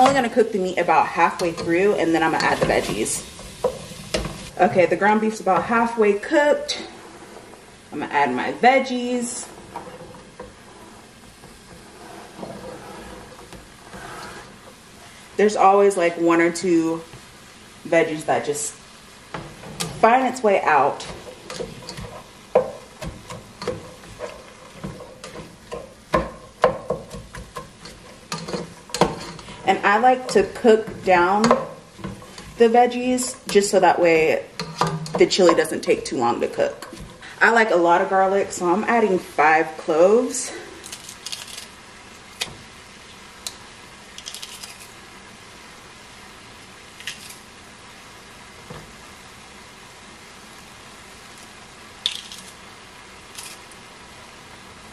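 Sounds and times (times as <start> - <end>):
meat sizzling: 0.0 - 37.4, 40.7 - 54.9.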